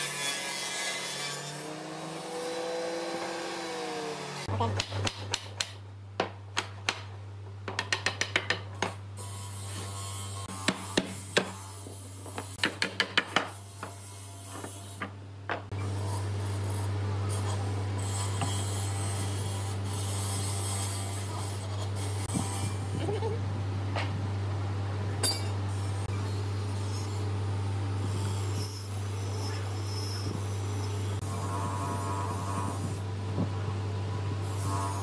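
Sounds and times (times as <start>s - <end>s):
steady hum with hiss: 4.2s - 35.0s.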